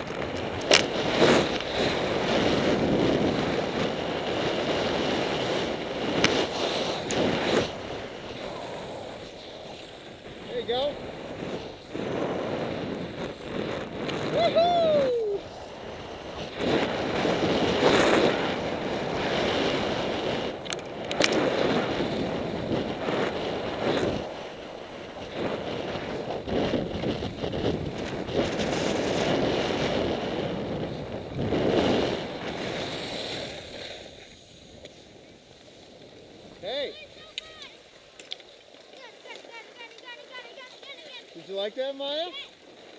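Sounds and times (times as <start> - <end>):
wind on microphone: 0.0 - 37.9
skis scraping over snow: 0.0 - 42.9.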